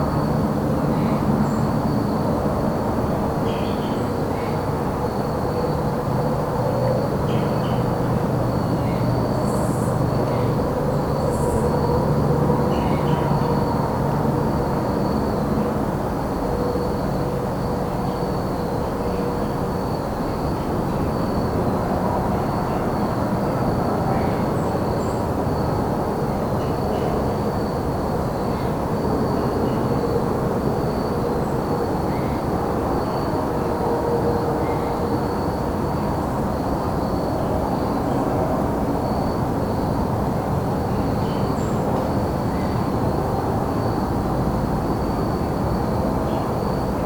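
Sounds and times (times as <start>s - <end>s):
crickets trilling: 0.0s - 47.0s.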